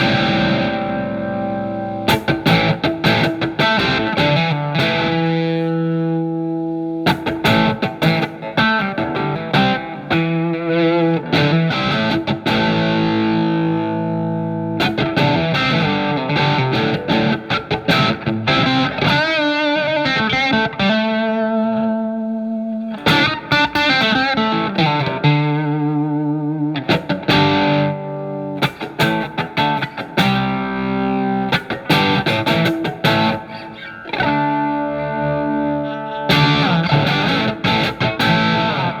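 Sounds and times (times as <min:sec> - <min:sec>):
electric guitar playing: 0:00.0 - 0:39.0.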